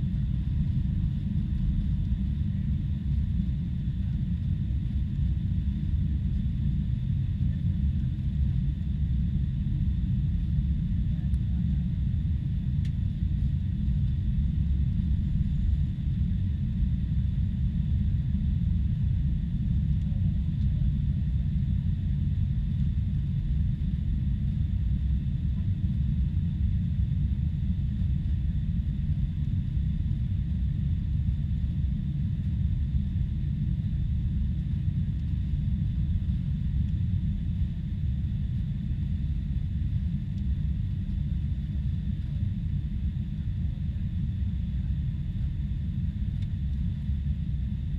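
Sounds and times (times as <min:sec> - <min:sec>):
jet engine low rumble: 0:00.0 - 0:47.9.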